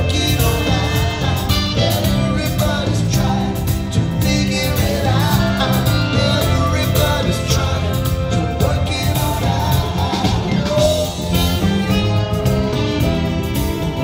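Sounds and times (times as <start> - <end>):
bass line: 0.0 - 14.0
drums: 0.0 - 14.0
man singing: 0.0 - 14.0.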